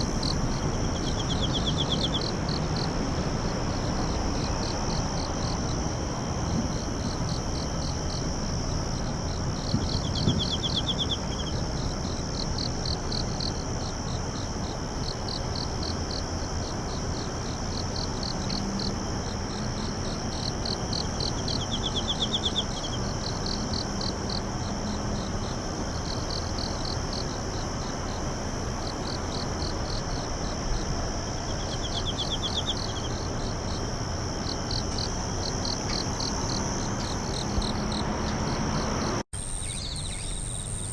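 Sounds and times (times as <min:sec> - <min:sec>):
crickets chirping: 0:00.0 - 0:40.9
insect trill: 0:00.0 - 0:40.9.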